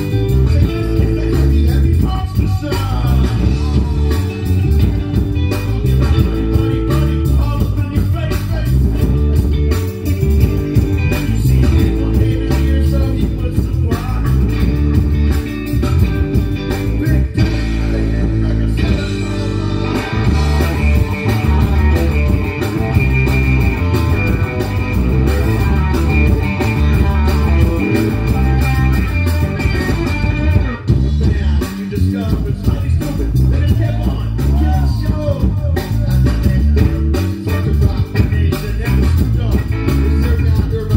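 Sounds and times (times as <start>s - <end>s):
rock band music: 0.0s - 40.9s.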